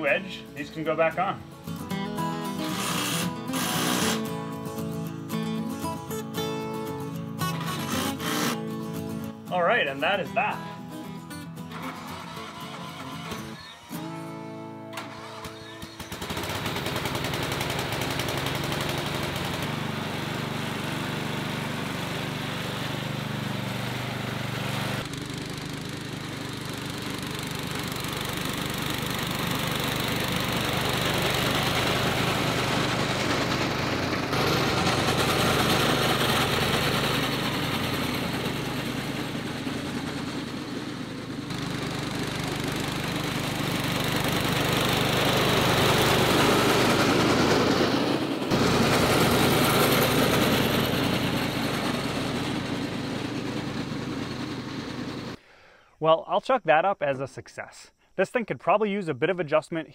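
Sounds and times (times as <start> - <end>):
lawn tractor engine mowing: 0.0 - 55.7.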